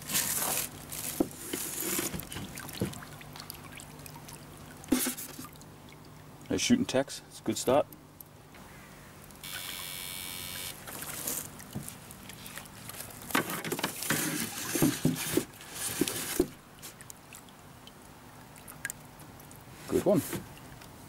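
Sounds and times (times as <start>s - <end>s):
pond water splashing: 0.0s - 6.8s, 7.6s - 21.0s.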